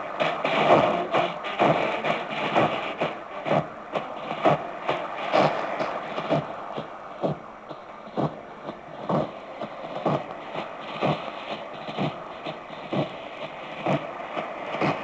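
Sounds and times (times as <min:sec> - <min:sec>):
radio static and hiss: 0:00.0 - 0:15.0.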